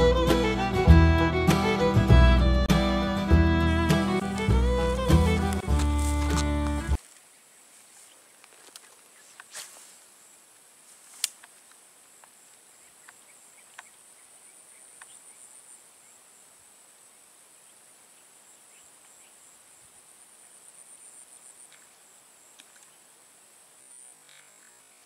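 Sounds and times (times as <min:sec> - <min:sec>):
insects buzzing: 0:01.7 - 0:25.0.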